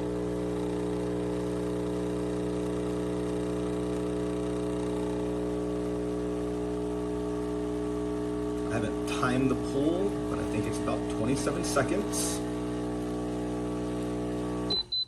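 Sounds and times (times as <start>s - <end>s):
espresso machine pump humming: 0.0s - 15.0s.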